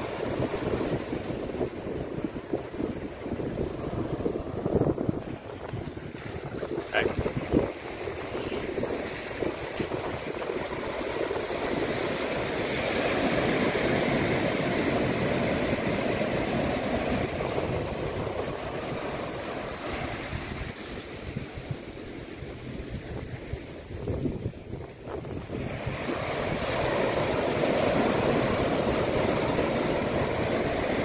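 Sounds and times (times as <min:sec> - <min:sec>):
surf washing onto shore: 0:00.0 - 0:31.0.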